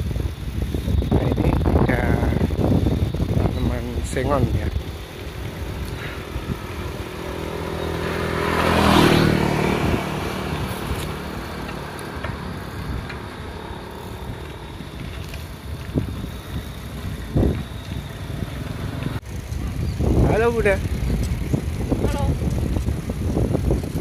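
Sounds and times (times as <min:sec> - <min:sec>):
small motorcycle engine passing: 0:00.0 - 0:24.0.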